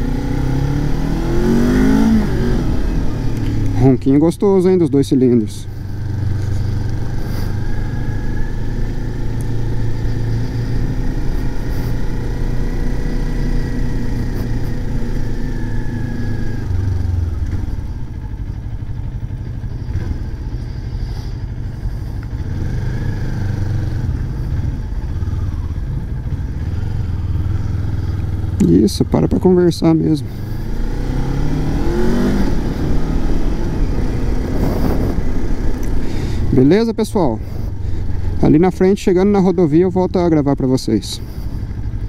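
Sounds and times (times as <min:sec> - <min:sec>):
motorcycle engine low rumble: 0:00.0 - 0:42.0.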